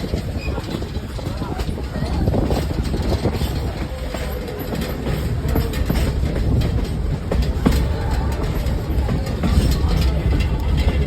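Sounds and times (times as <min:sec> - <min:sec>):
train cars rolling on track: 0:00.0 - 0:11.0.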